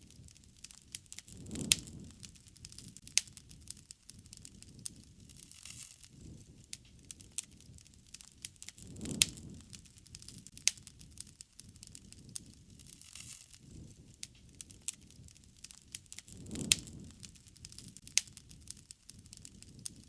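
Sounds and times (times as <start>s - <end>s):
campfire crackling: 0.0s - 20.0s
low rumble of flames: 0.0s - 20.0s.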